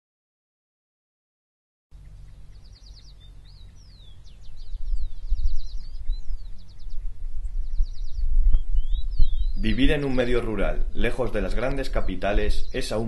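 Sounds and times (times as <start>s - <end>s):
birds calling with trills: 1.9s - 13.0s
low fluctuating rumble: 2.0s - 12.7s.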